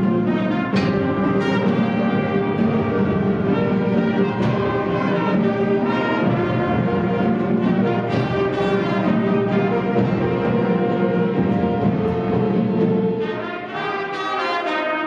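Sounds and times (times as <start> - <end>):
percussion strikes: 0.0 - 14.6
concert band playing: 0.0 - 15.0.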